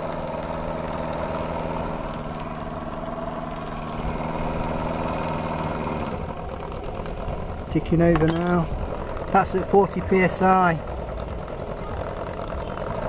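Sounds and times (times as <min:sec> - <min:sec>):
model steam engine ticking over: 0:00.0 - 0:13.0.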